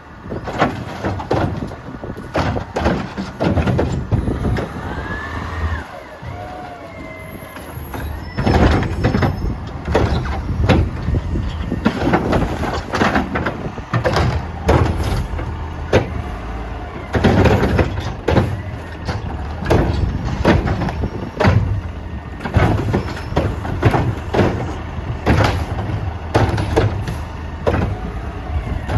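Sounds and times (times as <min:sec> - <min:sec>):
carts knocking and banging: 0:00.0 - 0:28.9
garbage truck diesel engine: 0:00.0 - 0:28.9.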